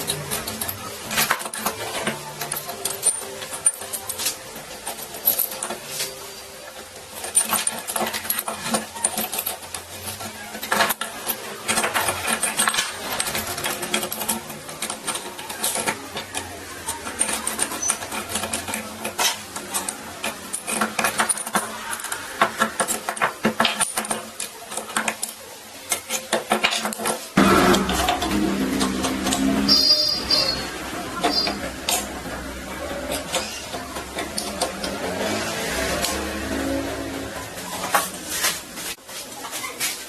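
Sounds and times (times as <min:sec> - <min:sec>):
mechanical clicking and clattering: 0:00.0 - 0:39.0.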